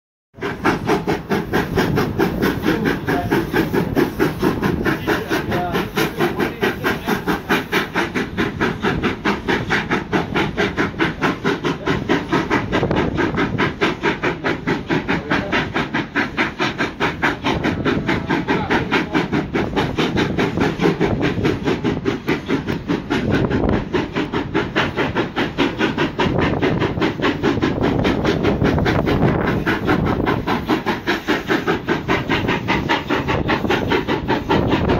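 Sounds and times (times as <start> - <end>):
steam locomotive exhaust beating: 0.3 - 34.9
coach wheels on rails: 0.4 - 34.9.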